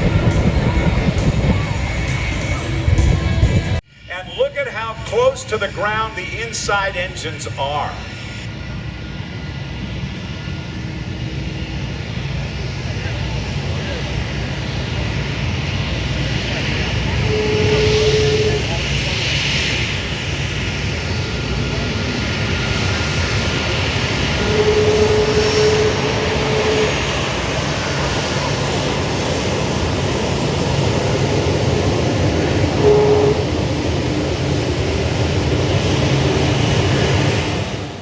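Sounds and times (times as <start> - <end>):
aircraft engines rumbling: 0.0 - 38.0
steady higher tone: 0.0 - 38.0.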